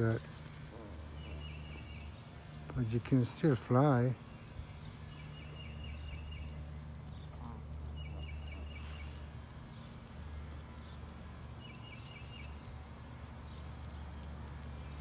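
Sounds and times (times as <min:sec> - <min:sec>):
steady low hum: 0:00.0 - 0:15.0
small bird chirping: 0:00.1 - 0:15.0.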